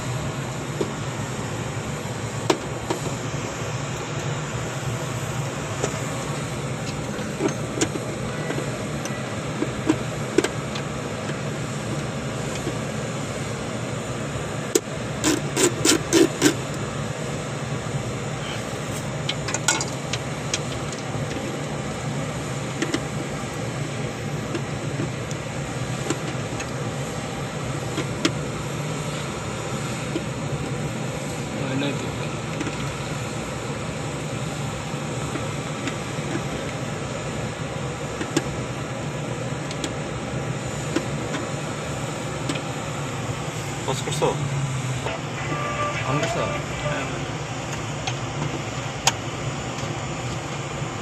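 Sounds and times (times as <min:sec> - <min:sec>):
steady machinery hum: 0:00.0 - 0:51.0.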